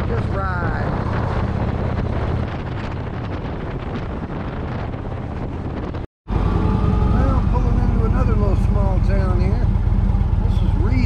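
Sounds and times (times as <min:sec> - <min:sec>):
motorcycle engine cruising: 0:00.0 - 0:11.0
wind rushing over microphone: 0:00.0 - 0:11.0.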